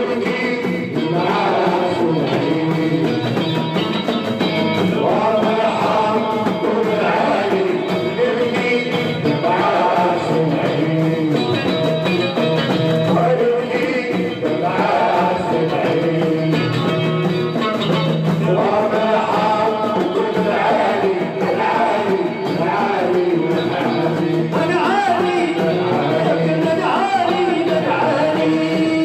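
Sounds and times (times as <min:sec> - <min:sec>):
live music with singing: 0:00.0 - 0:29.0.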